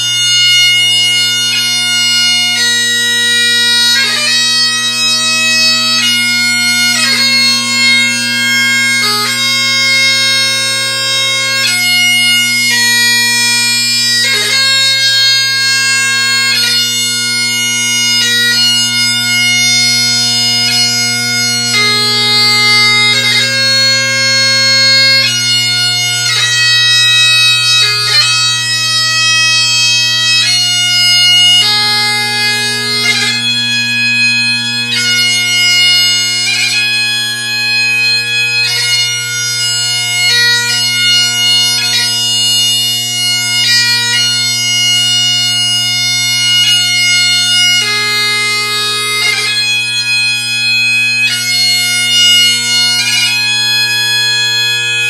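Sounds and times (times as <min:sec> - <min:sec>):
solo bagpipe lament: 0:00.0 - 0:55.0.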